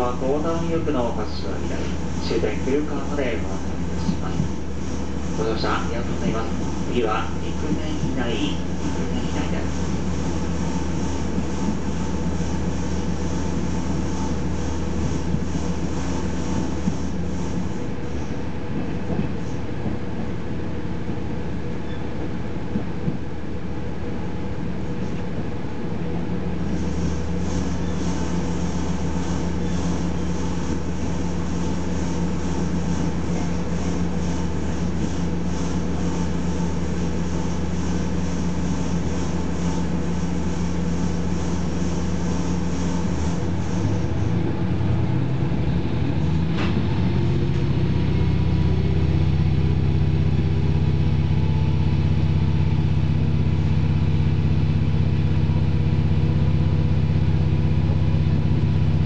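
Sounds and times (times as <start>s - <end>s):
diesel railcar engine running: 0.0s - 59.0s.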